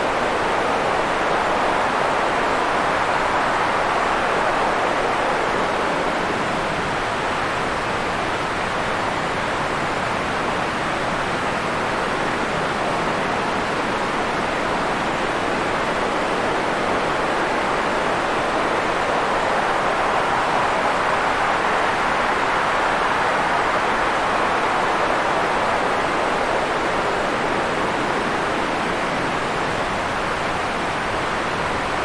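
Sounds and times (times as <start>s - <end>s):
white noise hiss: 0.0s - 32.0s.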